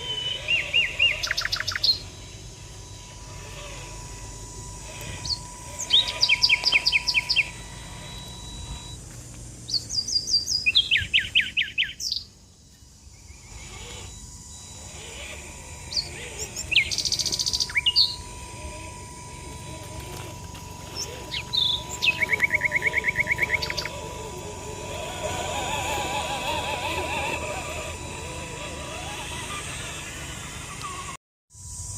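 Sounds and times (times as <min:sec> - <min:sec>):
faint steady high tone: 0:00.0 - 0:09.2, 0:09.8 - 0:31.7
birds chirping: 0:00.0 - 0:31.2.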